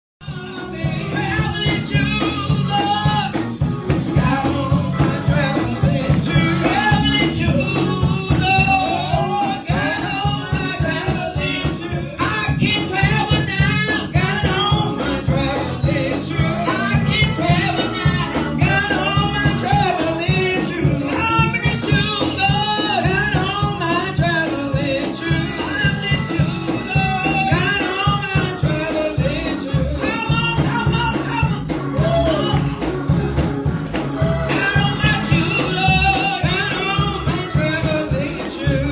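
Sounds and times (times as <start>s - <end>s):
band playing: 0.2s - 38.9s
gospel voices singing: 0.2s - 38.9s
tambourine shaking: 0.3s - 38.9s.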